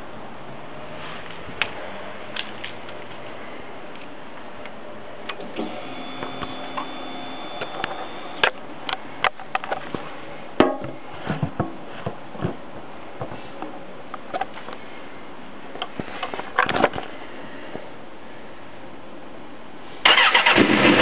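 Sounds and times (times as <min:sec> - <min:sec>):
faint steady whine: 0:00.0 - 0:20.0.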